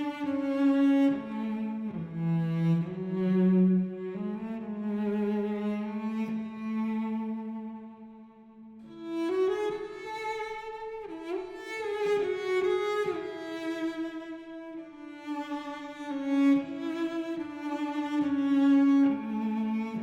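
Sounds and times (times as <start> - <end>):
cello and violin music: 0.0 - 20.0.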